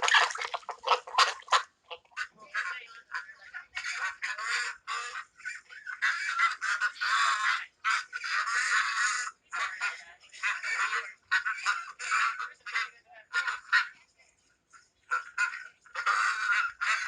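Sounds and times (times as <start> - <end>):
harsh animal calls: 0.0 - 13.9, 15.1 - 17.0.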